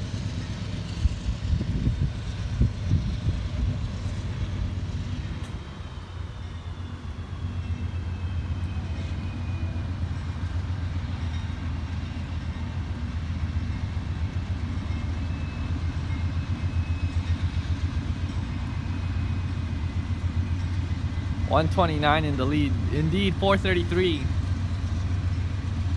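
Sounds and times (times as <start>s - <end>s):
diesel locomotive rumble: 0.0s - 25.9s.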